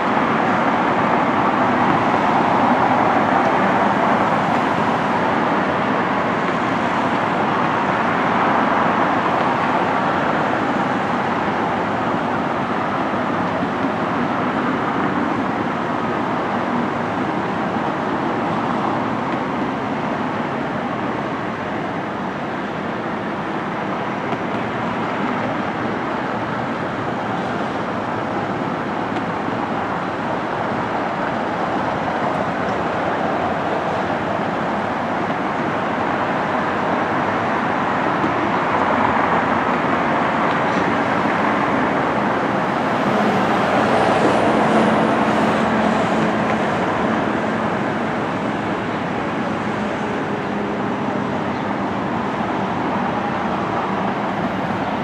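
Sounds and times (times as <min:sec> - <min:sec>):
distant diesel engines drone: 0:00.0 - 0:55.0
heavy machinery noise: 0:00.0 - 0:55.0.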